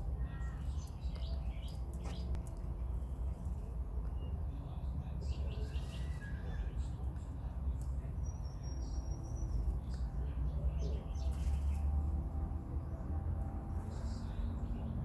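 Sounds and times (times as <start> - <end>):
small birds chirping: 0.0 - 12.2, 13.7 - 15.0.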